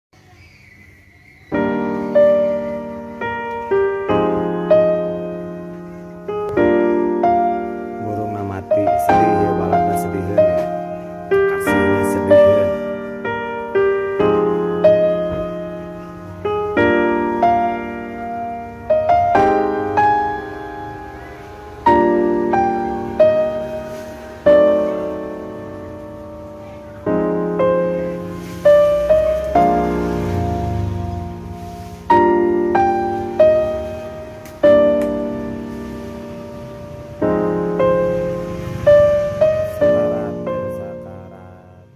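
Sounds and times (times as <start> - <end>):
slow gentle piano music: 0.2 - 41.9.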